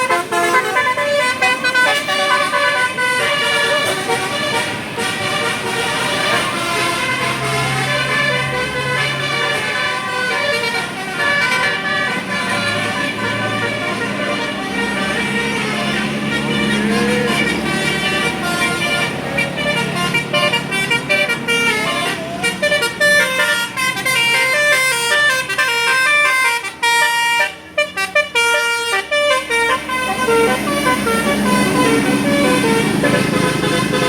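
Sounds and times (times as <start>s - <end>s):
musical air horn tune: 0.0s - 34.0s.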